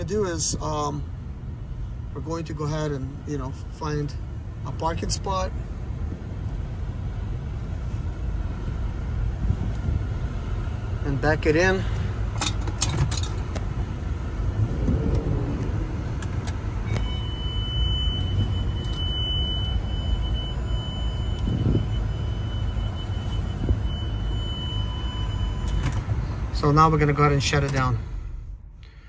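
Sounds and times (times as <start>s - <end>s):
low engine and road rumble: 0.0s - 29.0s.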